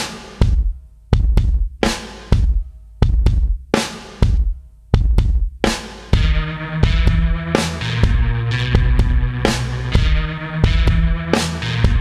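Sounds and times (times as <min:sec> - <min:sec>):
drum-kit beat: 0:00.0 - 0:12.0.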